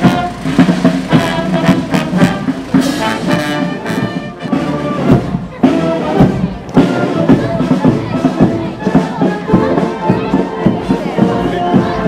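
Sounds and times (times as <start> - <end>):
brass band playing a march: 0.0 - 12.0
steady drum beat: 0.0 - 12.0.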